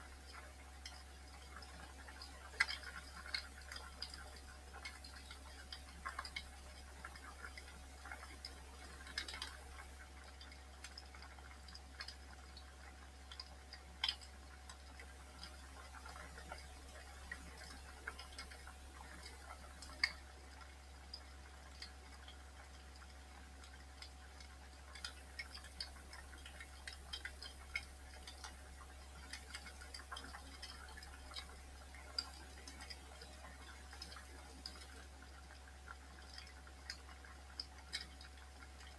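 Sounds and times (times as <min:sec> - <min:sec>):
wood fire crackling and popping: 0:00.2 - 0:38.9.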